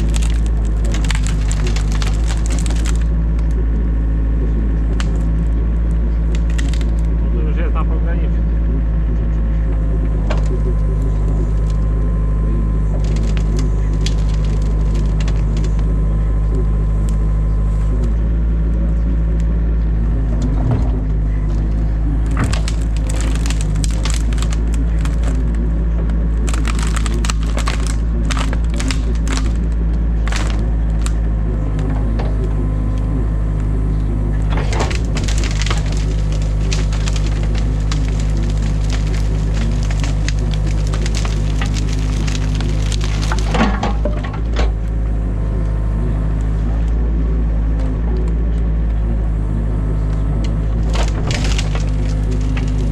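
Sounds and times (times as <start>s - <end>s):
branches cracking and snapping: 0.0s - 3.7s, 4.7s - 7.3s, 9.8s - 18.2s, 20.4s - 47.0s, 50.1s - 52.9s
diesel engine running: 0.0s - 52.9s.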